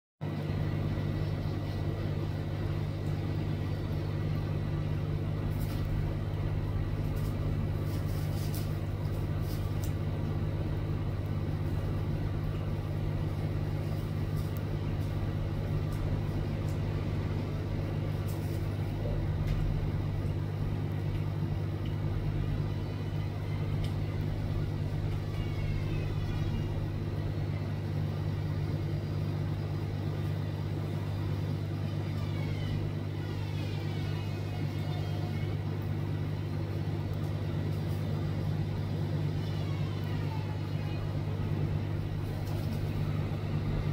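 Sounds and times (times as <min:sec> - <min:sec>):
low machinery hum: 0:00.2 - 0:43.9.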